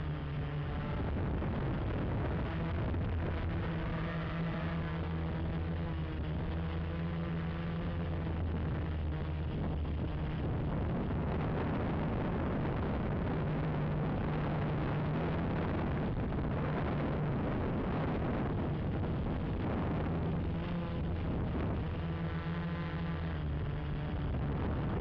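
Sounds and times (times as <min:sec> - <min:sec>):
drone motors humming: 0:00.0 - 0:25.0.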